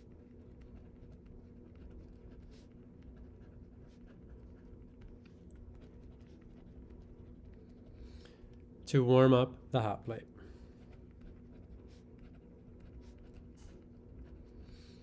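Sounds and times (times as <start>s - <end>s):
pen scratching on paper: 0.0s - 8.1s, 10.6s - 15.0s.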